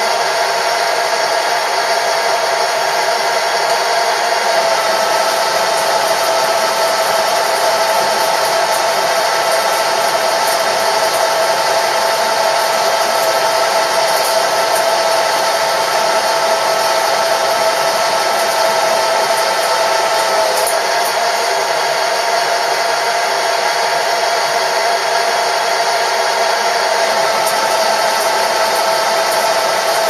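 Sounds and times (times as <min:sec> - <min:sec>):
machine tool motor whine: 0:00.0 - 0:30.0.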